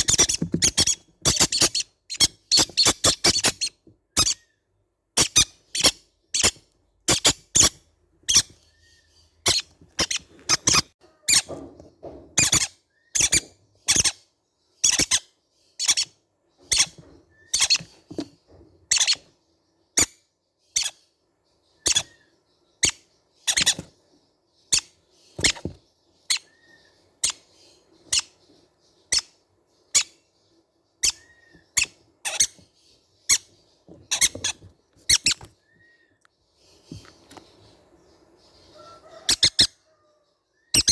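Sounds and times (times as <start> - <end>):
baby parrots squeaking: 0.0 - 11.7, 12.4 - 18.2, 18.9 - 21.1, 21.8 - 24.0, 24.6 - 30.3, 31.0 - 36.0, 38.5 - 40.9.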